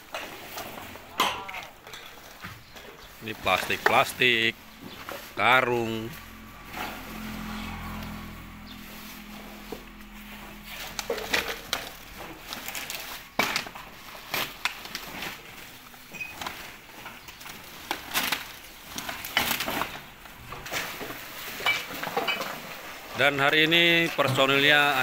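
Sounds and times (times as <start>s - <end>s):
plastic bags rustling: 0.0s - 25.0s.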